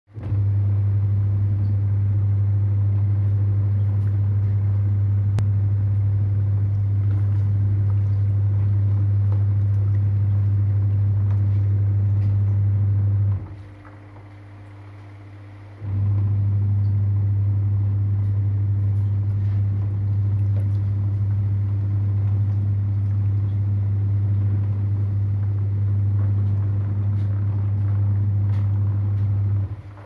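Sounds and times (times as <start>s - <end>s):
clothes churning in soapy water: 0.1s - 30.0s
washing machine motor humming: 0.1s - 30.0s.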